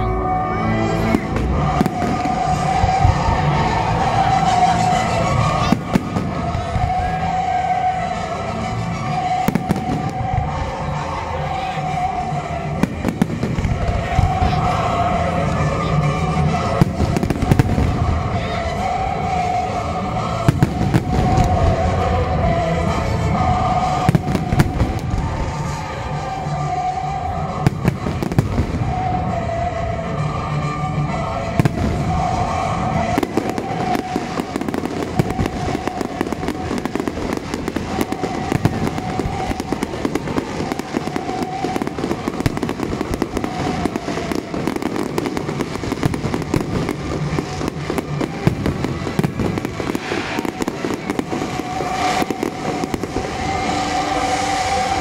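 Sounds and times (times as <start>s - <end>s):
music: 0.0s - 55.0s
fireworks bangs and crackling: 0.6s - 55.0s.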